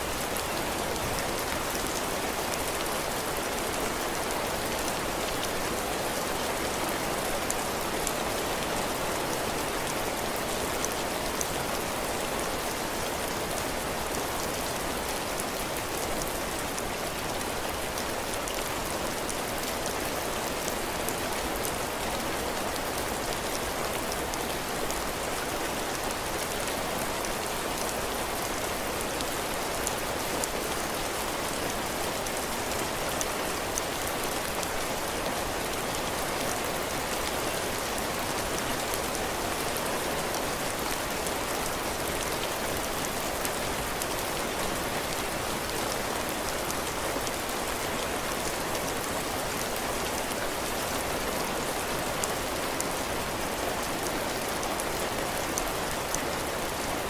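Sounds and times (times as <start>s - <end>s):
heavy rain on roof: 0.0s - 57.0s.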